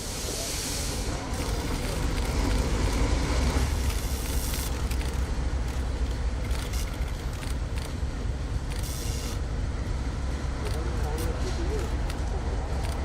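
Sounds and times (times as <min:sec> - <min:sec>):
vehicle rumbling: 0:01.0 - 0:13.0.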